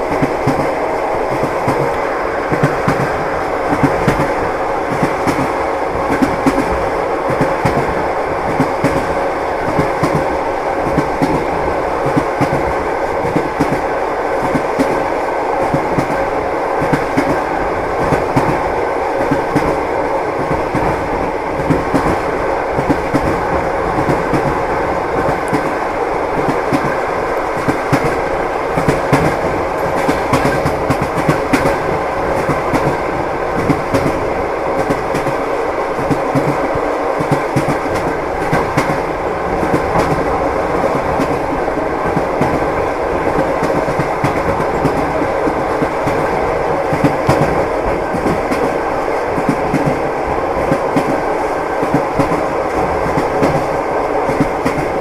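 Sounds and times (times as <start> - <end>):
moving train rumble: 0.0 - 55.0
train wheels clacking: 0.0 - 55.0.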